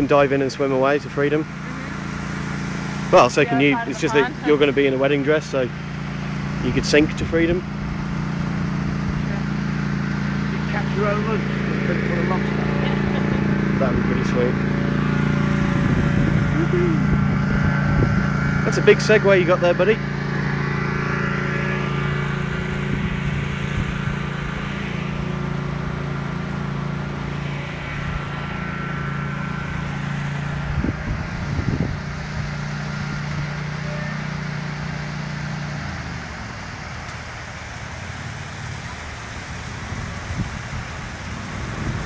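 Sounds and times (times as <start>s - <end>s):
motor humming: 0.0s - 42.0s.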